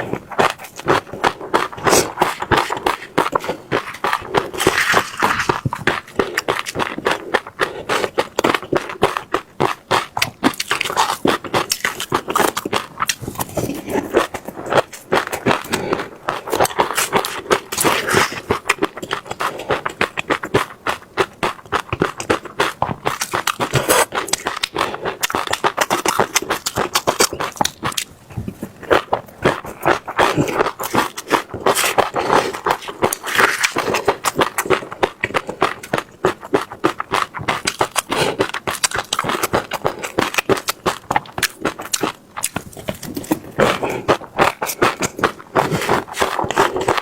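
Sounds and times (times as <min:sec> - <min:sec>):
mouth crunching seeds: 0:00.0 - 0:47.0.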